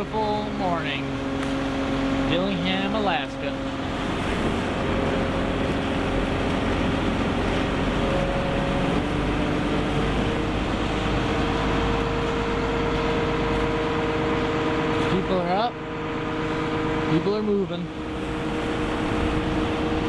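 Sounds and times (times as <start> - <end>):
boat engine droning: 0.0 - 20.0
steady whine: 0.0 - 20.0.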